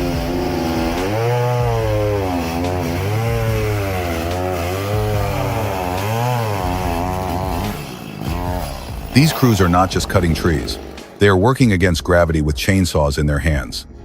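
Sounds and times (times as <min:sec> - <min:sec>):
chainsaw engine revving: 0:00.0 - 0:11.8.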